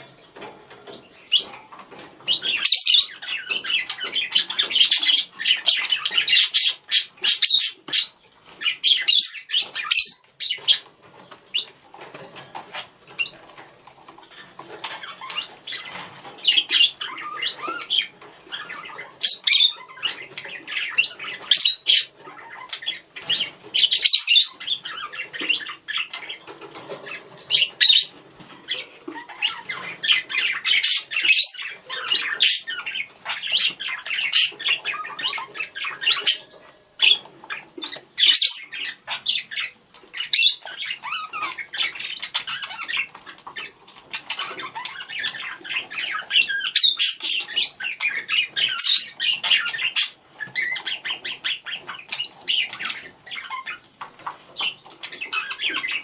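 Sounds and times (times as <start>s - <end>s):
budgerigars chirping and squawking: 0.0s - 56.0s.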